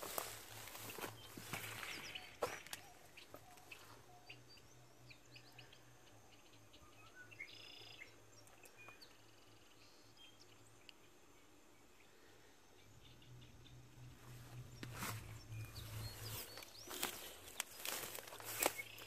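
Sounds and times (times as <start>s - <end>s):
faint bird chirps: 0.1s - 19.0s.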